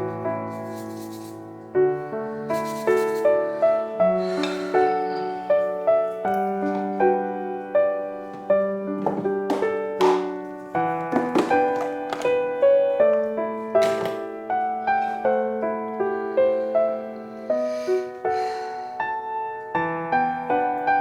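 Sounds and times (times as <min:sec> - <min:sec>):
gentle piano instrumental: 0:00.0 - 0:21.0.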